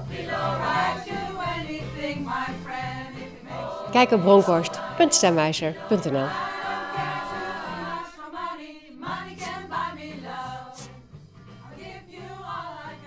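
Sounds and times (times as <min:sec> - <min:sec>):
pop choir singing: 0:00.0 - 0:13.0.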